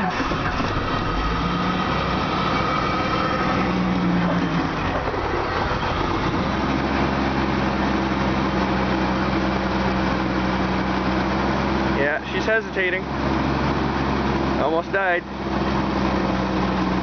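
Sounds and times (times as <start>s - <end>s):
car engine idling unevenly: 0.0s - 17.0s.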